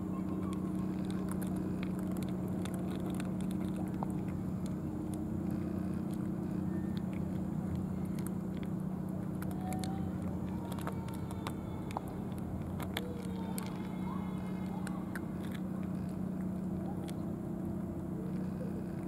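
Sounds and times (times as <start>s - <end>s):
cats chewing and lapping: 0.0s - 19.0s
low mechanical hum: 0.0s - 19.0s.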